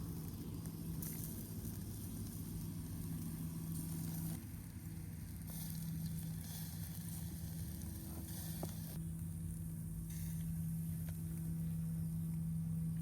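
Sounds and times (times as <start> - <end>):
fire crackles: 0.0 - 13.0
sizzling over campfire: 0.0 - 13.0
steady low hum: 0.0 - 13.0.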